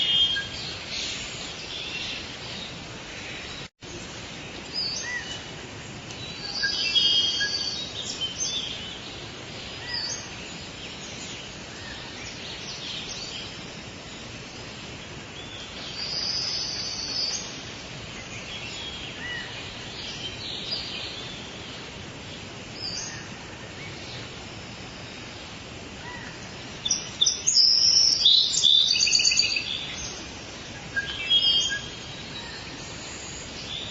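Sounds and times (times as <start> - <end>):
birds calling and chirping: 0.0 - 33.9
steady background hiss: 0.0 - 33.9.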